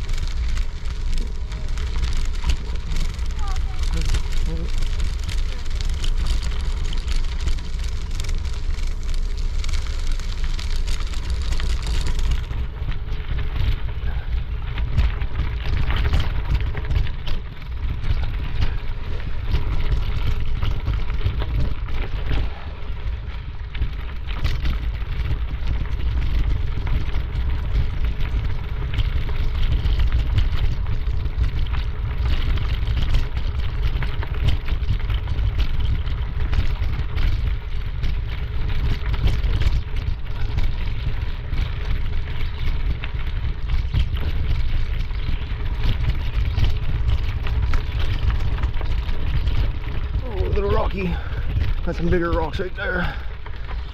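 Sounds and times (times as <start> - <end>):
running footsteps on trail: 0.0 - 53.9
wind buffeting microphone: 0.0 - 53.9.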